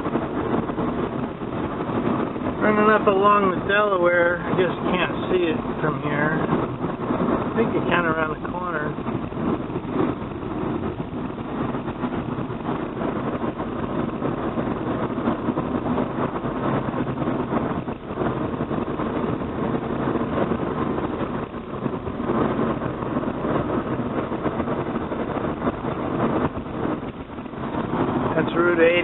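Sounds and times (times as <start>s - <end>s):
car engine: 0.0s - 29.0s
tyre and road noise: 0.0s - 29.0s.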